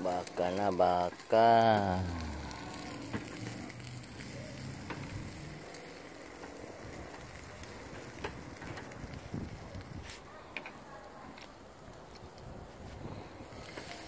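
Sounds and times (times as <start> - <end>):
meat sizzling on a grill: 0.0 - 14.0.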